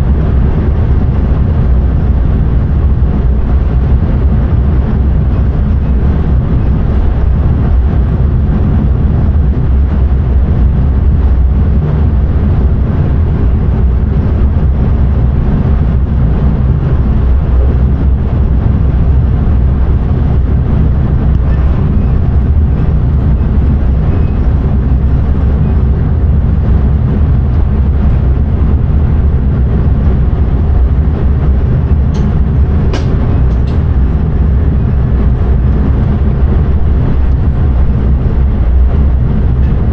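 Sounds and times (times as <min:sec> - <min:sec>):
train rumbling at speed: 0:00.0 - 0:39.9.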